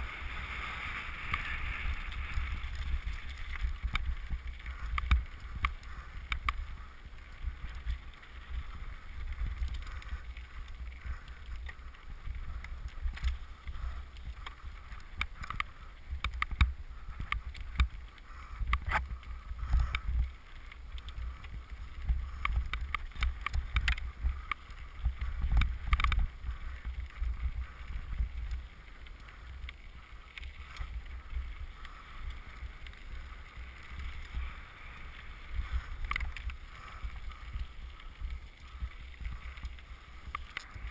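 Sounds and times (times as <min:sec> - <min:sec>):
bike rattling over stones: 0:00.0 - 0:40.9
wind and trail vibration rumble: 0:00.0 - 0:40.9.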